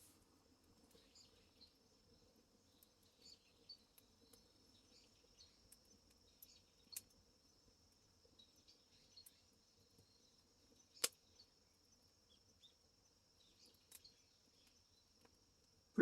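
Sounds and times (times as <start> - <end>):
wood fire crackling: 0.0 - 16.0
faint high chirping: 0.8 - 15.3.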